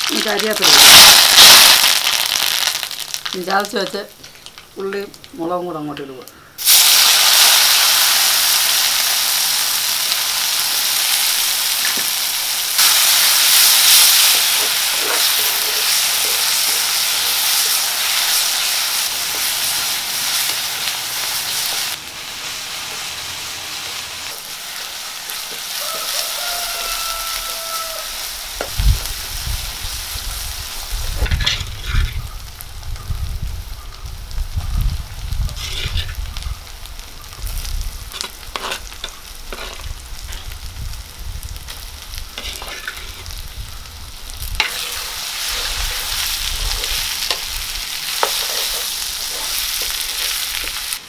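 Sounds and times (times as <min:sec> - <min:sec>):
paste sizzling in hot oil: 0:00.0 - 0:04.7, 0:06.6 - 0:32.7, 0:33.4 - 0:51.0.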